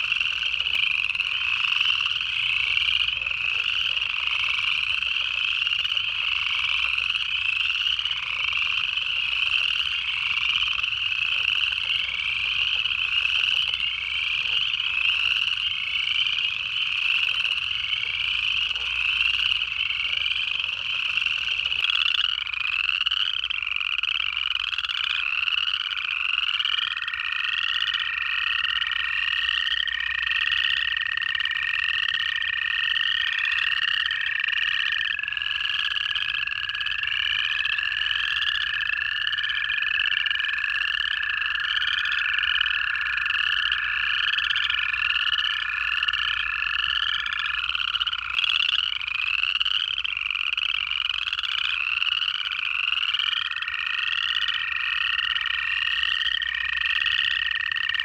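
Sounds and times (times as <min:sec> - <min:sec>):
chorus frogs trilling: 0:00.0 - 0:58.0
toad steady trill: 0:00.0 - 0:58.0.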